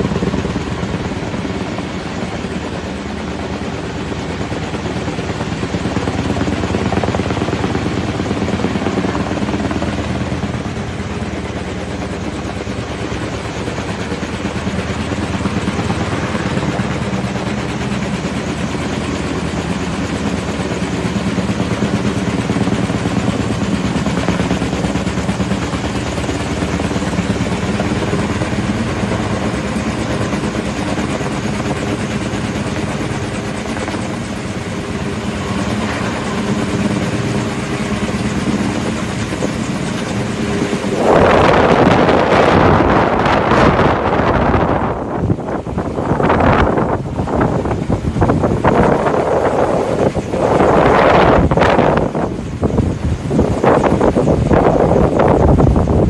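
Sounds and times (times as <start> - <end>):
helicopter engine running: 0.0 - 56.0
helicopter rotor beating: 0.0 - 56.0.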